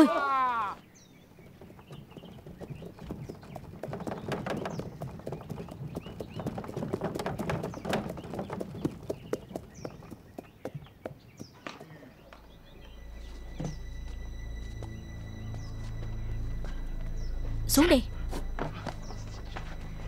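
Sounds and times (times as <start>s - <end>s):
birds chirping: 0.0s - 20.0s
hooves clopping on stone: 1.0s - 20.0s.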